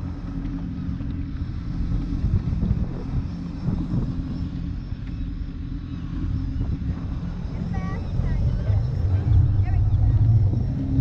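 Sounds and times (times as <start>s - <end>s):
motorboat engine running: 0.0s - 11.0s
water noise: 0.0s - 11.0s
wind: 0.0s - 11.0s.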